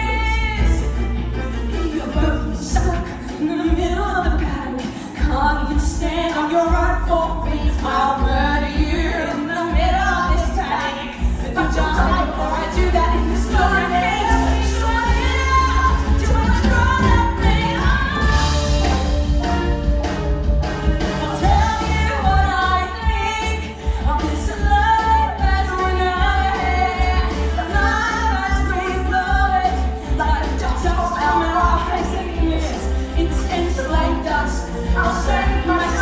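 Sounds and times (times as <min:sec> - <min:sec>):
women singing: 0:00.0 - 0:19.8, 0:20.8 - 0:36.0
musical accompaniment with bass: 0:00.0 - 0:36.0.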